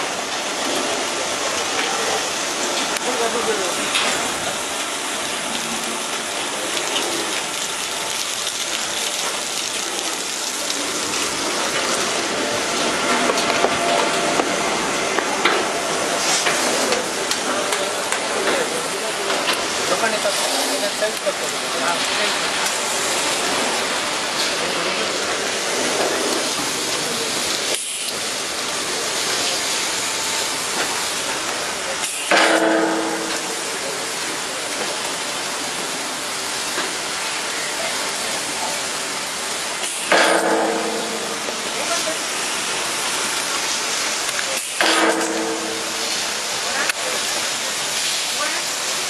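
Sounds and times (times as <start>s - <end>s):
water spraying from jets: 0.0s - 49.0s.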